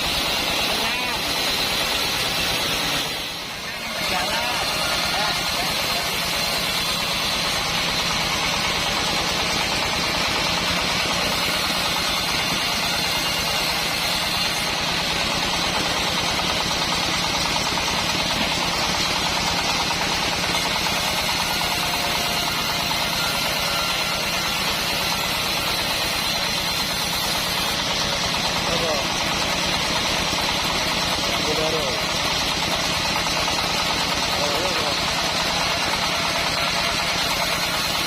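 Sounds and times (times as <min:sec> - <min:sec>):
band sawmill motor humming: 0:00.0 - 0:38.0.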